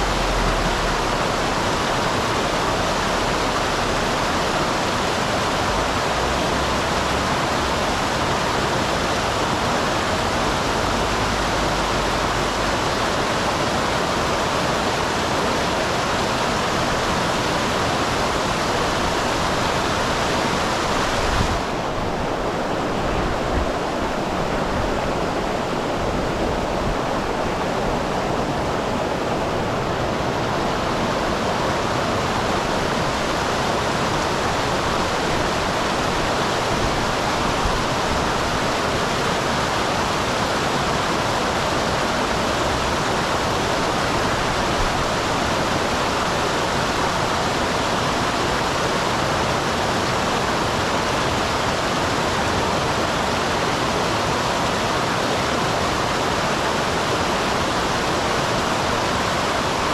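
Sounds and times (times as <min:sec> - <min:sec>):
water rushing over waterfall: 0:00.0 - 0:59.9.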